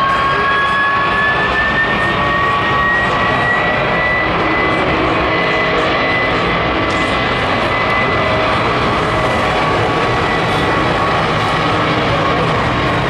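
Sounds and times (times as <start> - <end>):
jet engines at take-off power: 0.0 - 13.0.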